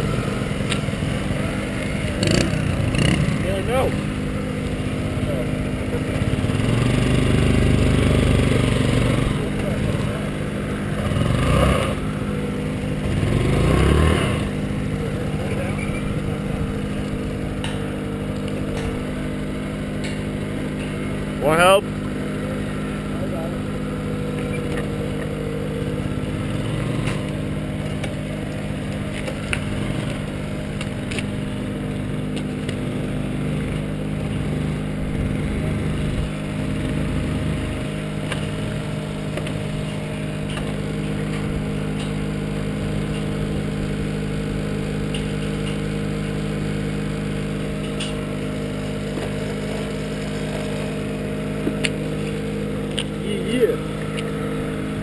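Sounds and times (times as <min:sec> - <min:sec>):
scooter engine idling: 0:00.0 - 0:55.0.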